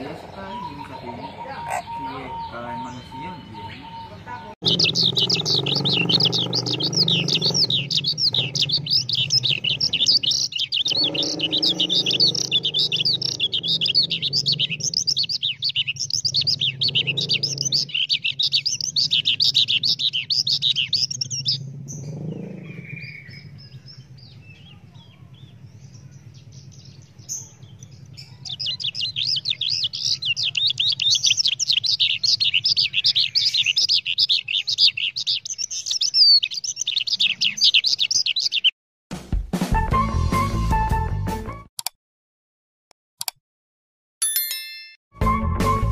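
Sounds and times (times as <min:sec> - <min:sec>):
songbird singing chirps and trills: 0:00.0 - 0:38.7.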